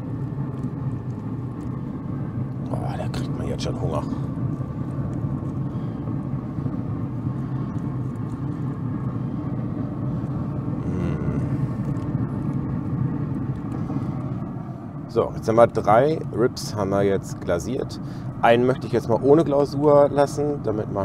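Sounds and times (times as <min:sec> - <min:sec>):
faint steady tones: 0:00.0 - 0:21.0
smoker humming and rumbling: 0:00.0 - 0:21.0.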